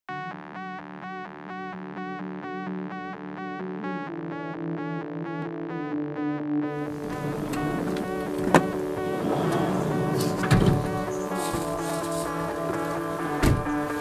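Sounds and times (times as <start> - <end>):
synthesizer music: 0.1 - 14.0.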